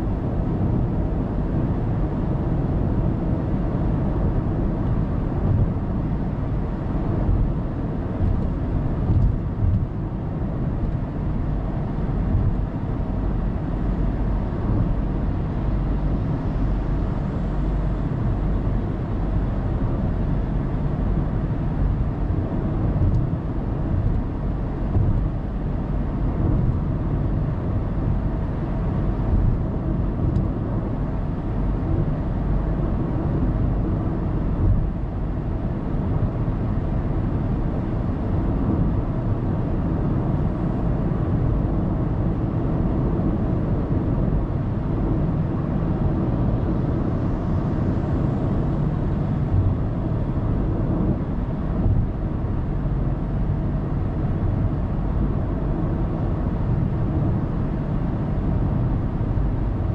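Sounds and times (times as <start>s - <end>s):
road and engine rumble inside car: 0.0s - 59.9s.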